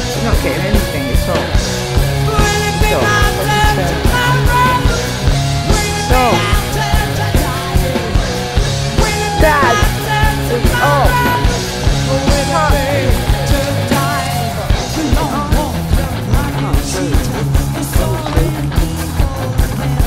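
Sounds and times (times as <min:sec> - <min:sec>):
punk rock song with singing: 0:00.0 - 0:20.0.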